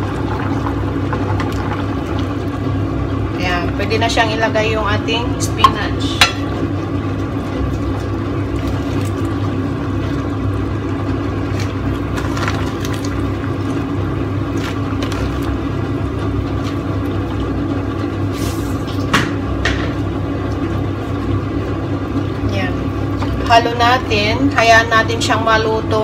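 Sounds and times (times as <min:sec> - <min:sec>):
soup boiling in pot: 0:00.0 - 0:25.0.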